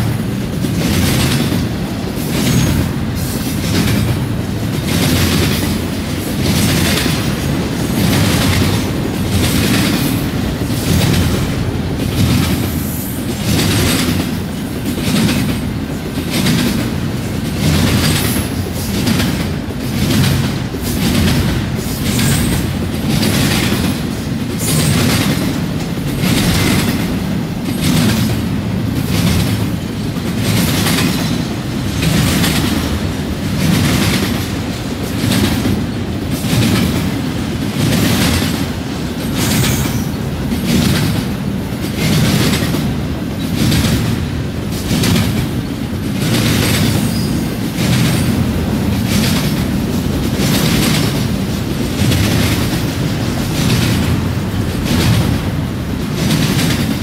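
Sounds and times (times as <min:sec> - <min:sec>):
freight train wheels rumbling: 0:00.0 - 0:57.0
rhythmic clickety-clack: 0:00.0 - 0:57.0.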